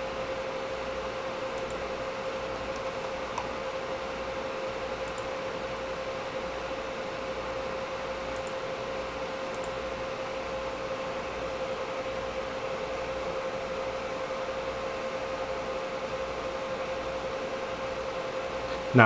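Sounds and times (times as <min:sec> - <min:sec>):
cooling fans whirring: 0:00.0 - 0:19.0.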